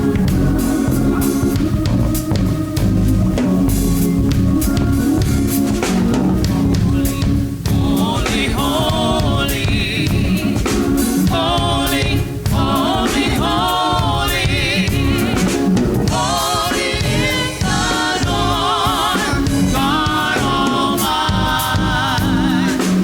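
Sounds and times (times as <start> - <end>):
band with drums: 0.0 - 23.0
worship team singing: 0.0 - 23.0.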